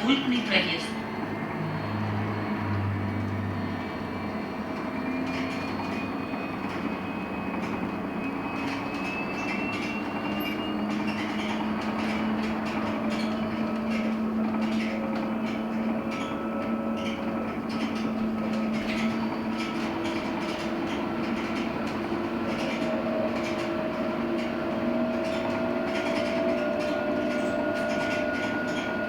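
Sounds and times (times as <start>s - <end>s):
electric bus drive humming: 0.0s - 29.0s
road noise: 0.0s - 29.0s.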